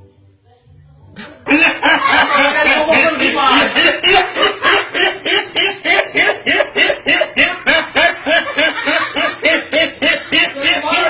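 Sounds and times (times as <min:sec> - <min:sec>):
person making snickering pulsed sounds: 0:01.5 - 0:11.0.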